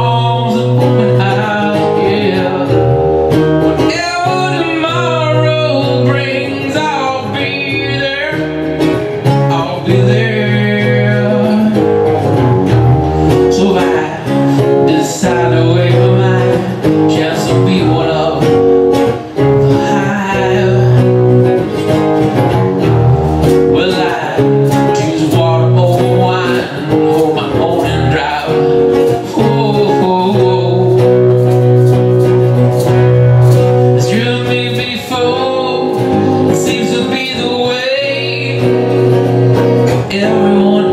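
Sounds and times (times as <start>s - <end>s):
man singing: 0.0s - 22.6s, 23.5s - 32.0s, 32.8s - 40.9s
acoustic guitars strummed: 0.0s - 40.9s.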